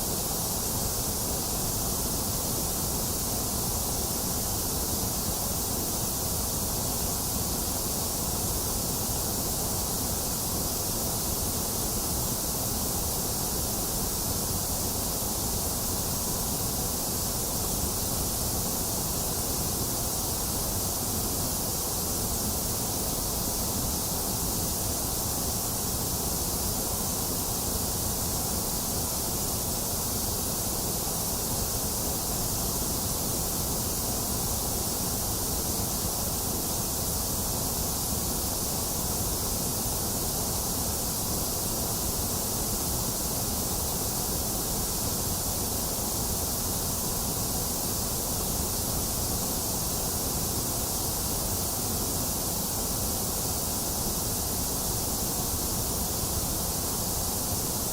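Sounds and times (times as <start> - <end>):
steady white noise hiss: 0.0 - 57.9.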